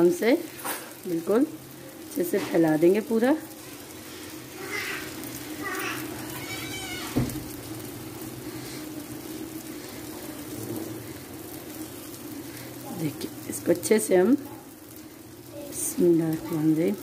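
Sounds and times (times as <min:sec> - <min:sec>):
batter sizzling on hot griddle: 0:00.0 - 0:17.0.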